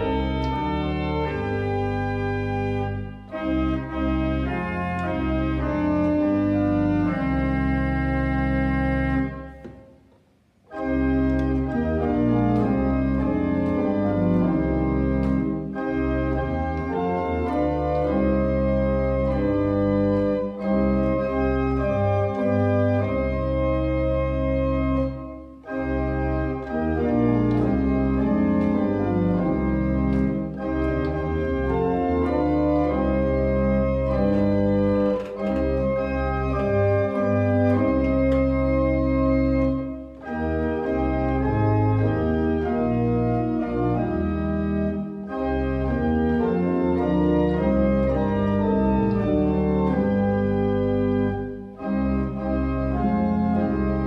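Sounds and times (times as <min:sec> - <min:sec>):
church pipe organ chords: 0:00.0 - 0:54.0.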